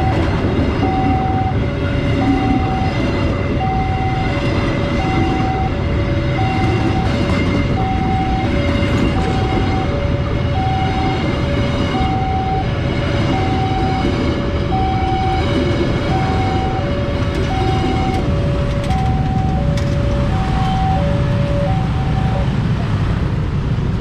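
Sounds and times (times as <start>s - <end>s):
passing train rumble: 0.0s - 24.0s.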